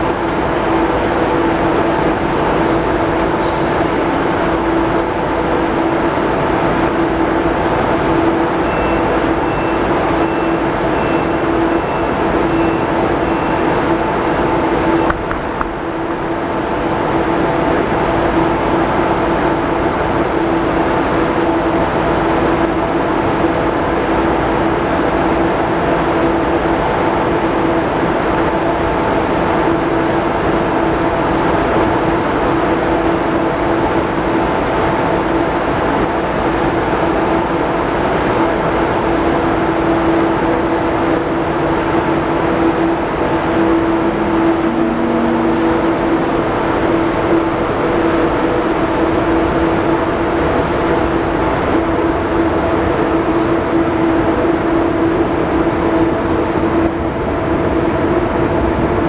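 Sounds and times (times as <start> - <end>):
train equipment humming: 0.0 - 58.8
low tone of train moving off: 0.0 - 59.0.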